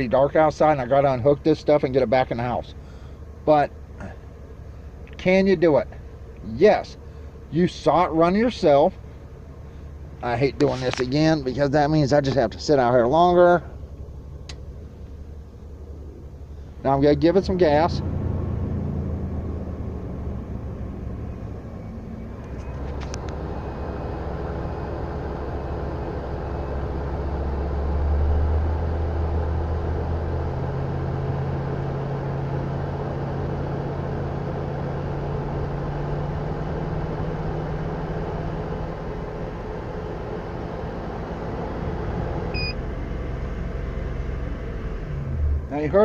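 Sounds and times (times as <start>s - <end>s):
van engine revving: 0.0s - 46.0s.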